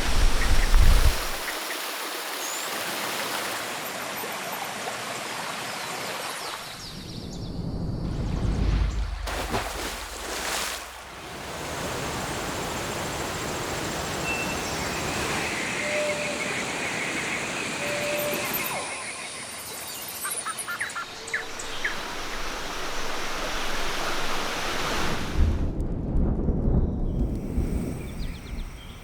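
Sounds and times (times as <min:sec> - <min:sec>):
rushing water: 0:00.0 - 0:07.4, 0:08.0 - 0:25.7.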